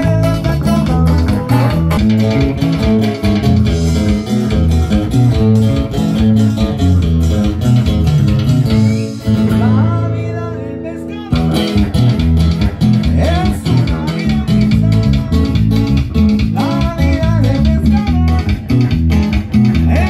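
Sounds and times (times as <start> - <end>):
guitar and bass music with beat: 0.0 - 20.0.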